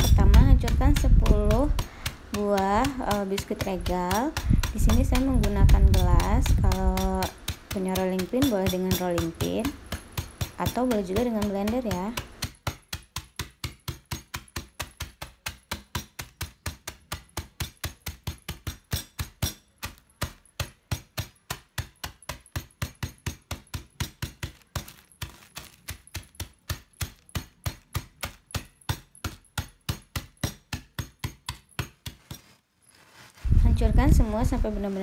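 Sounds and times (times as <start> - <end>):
glass pounding biscuits on table: 0.0 - 32.6.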